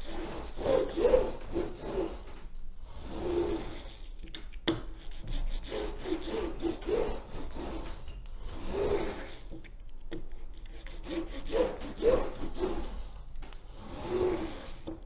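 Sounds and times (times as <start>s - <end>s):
rubber roller rasping: 0.0s - 4.3s, 4.9s - 9.6s, 10.8s - 15.0s.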